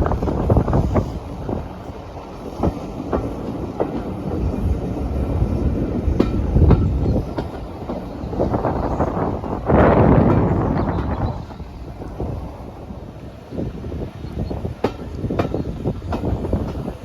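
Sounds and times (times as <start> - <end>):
passenger train rumbling: 0.0 - 17.0
wheels clicking over rail joints: 0.0 - 17.0.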